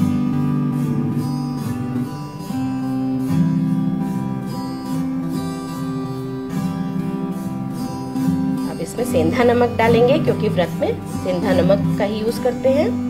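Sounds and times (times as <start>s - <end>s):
strummed acoustic guitar chords: 0.0s - 13.0s.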